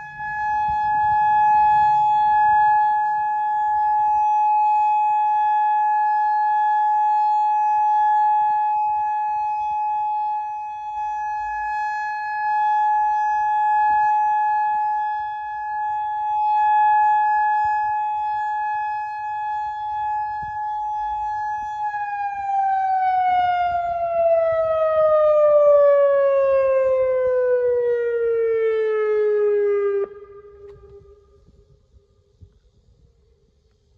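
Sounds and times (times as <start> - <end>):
warning siren steady tone: 0.0 - 33.9.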